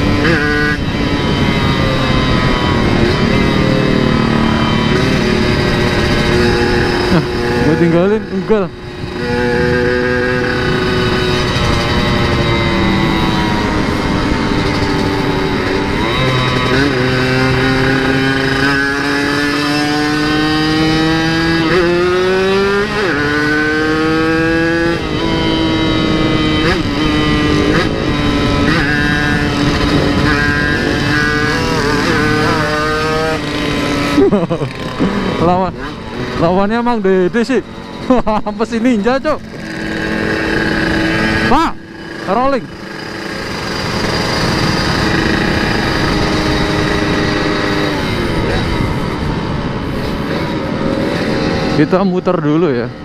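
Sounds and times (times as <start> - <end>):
two-stroke motorcycle engine revving: 0.0 - 53.0.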